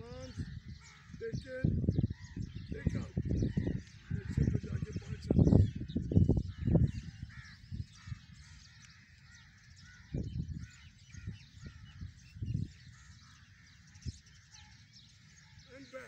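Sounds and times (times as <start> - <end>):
birds calling and chattering: 0.0 - 16.0.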